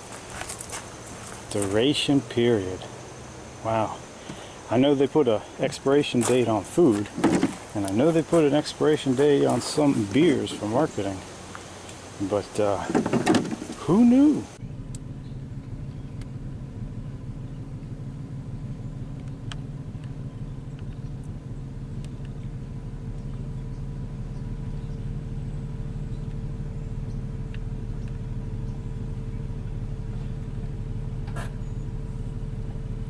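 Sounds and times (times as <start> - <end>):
low engine rumble: 0.0 - 33.0
thin steady hum: 0.0 - 33.0.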